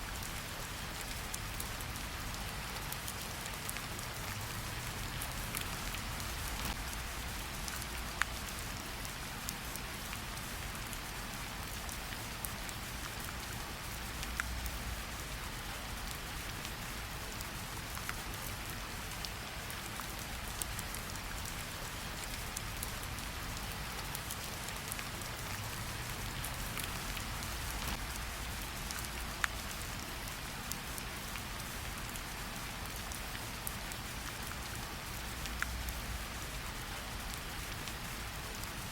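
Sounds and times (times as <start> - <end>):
steady rainfall hissing: 0.0 - 38.9.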